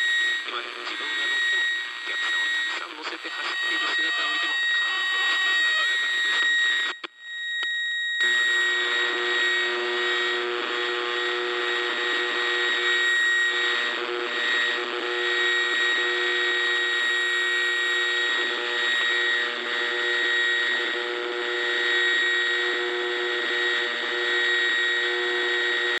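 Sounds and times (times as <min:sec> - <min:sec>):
radio static hiss: 0:00.0 - 0:07.1, 0:08.2 - 0:26.0.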